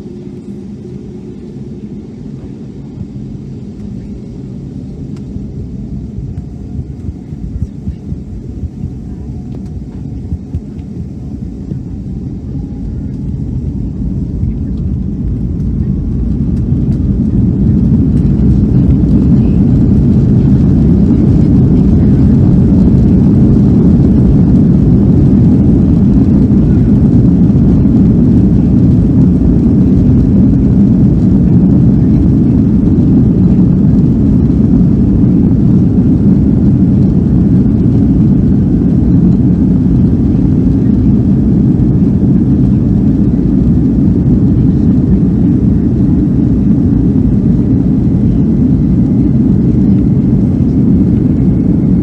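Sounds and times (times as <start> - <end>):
jet engine cabin rumble: 0.0 - 52.0.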